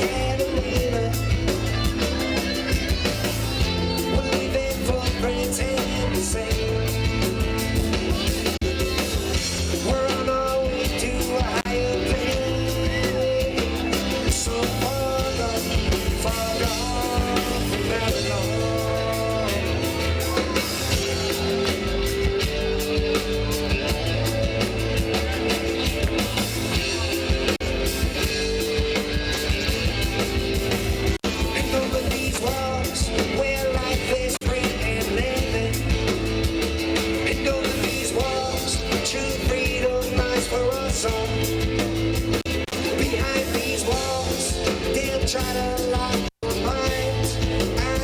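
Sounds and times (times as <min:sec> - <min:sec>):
reggae band playing live: 0:00.0 - 0:48.0.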